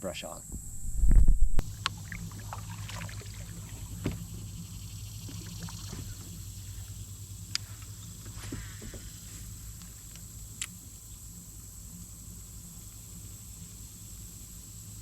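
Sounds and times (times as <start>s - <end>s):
steady low hum: 0.0s - 15.0s
water trickling around a kayak: 1.6s - 15.0s.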